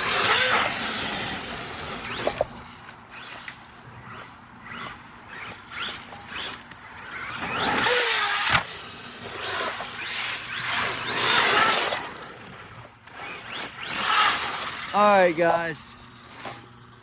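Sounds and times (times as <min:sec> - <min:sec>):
toy truck motor whine: 0:00.0 - 0:15.2, 0:16.0 - 0:17.0.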